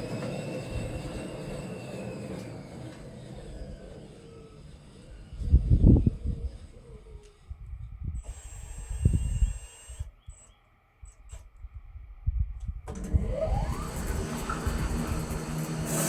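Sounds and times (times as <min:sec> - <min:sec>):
sawmill engine and saw running: 0:00.0 - 0:10.1, 0:12.9 - 0:16.0.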